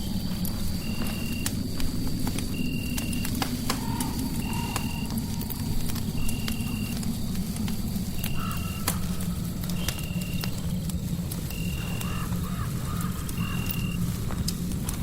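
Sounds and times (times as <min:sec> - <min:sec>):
fireplace crackling and popping: 0:00.0 - 0:15.0
low rumble of noise: 0:00.0 - 0:15.0.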